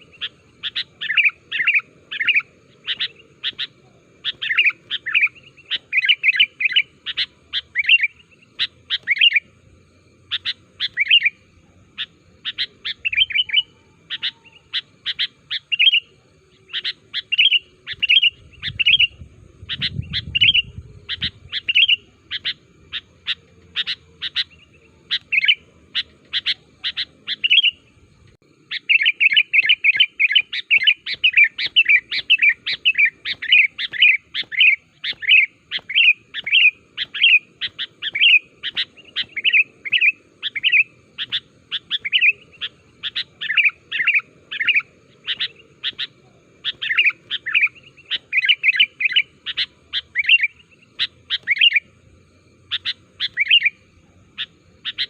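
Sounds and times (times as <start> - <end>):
bird singing sharp chirps: 0.0 - 9.6, 10.2 - 27.9, 28.6 - 52.0, 52.6 - 55.0.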